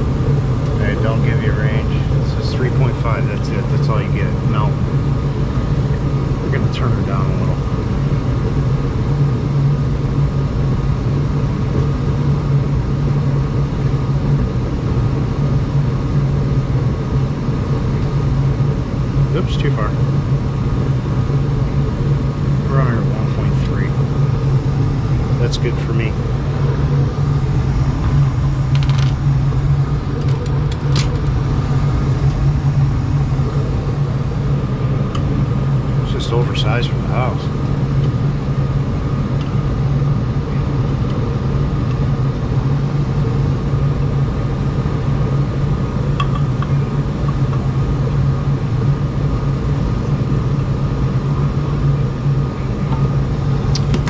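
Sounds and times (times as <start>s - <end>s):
gas furnace hum and rumble: 0.0s - 54.0s.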